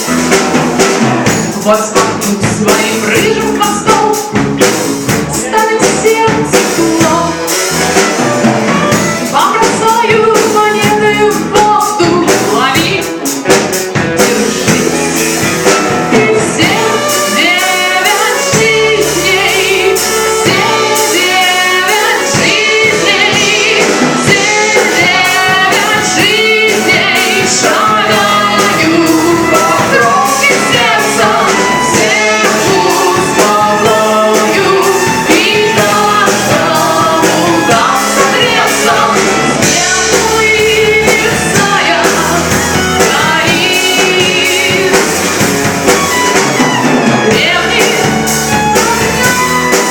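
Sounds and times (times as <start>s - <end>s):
drums: 0.0s - 49.9s
guitar: 0.0s - 49.9s
person singing: 1.0s - 49.9s.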